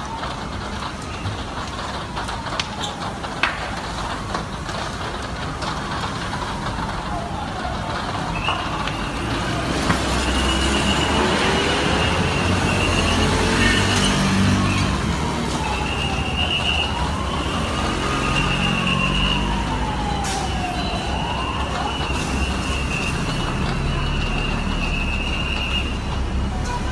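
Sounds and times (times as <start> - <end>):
fire engine siren wailing: 0.0 - 26.9
heavy vehicle engine rumble: 0.0 - 26.9
traffic: 0.0 - 26.9.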